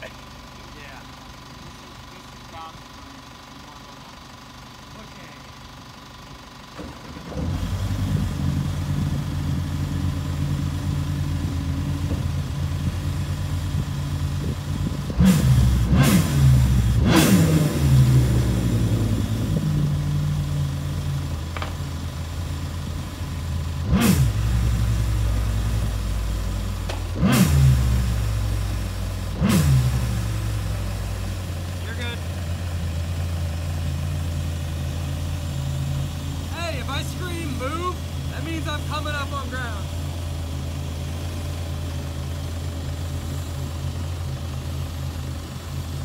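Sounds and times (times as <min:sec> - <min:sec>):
boat engine idling and revving: 0:00.0 - 0:46.0.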